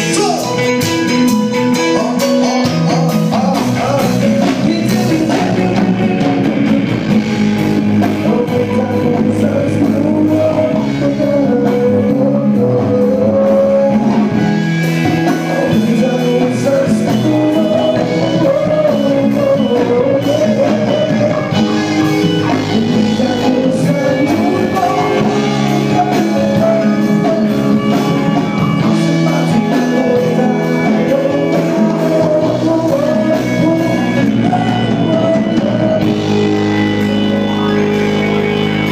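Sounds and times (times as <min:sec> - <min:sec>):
person singing: 0:00.0 - 0:38.9
rock music with electric guitar: 0:00.0 - 0:38.9.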